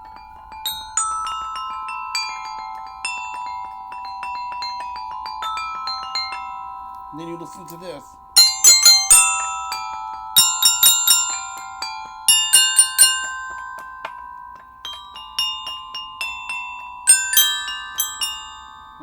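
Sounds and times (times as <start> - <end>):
glockenspiel notes: 0.0 - 19.0.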